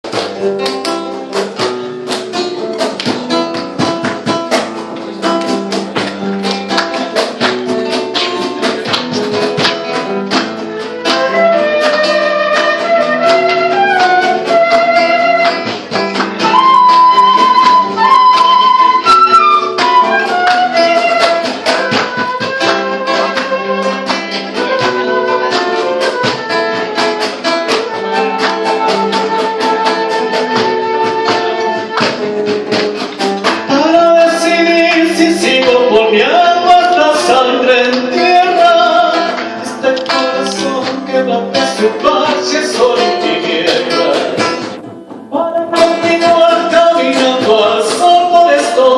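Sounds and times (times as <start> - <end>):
acoustic guitar strumming: 0.0 - 48.9
held melody line: 7.6 - 48.9.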